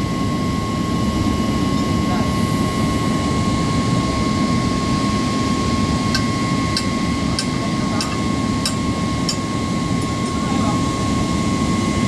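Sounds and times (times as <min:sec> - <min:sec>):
machinery drone with whine: 0:00.0 - 0:12.0.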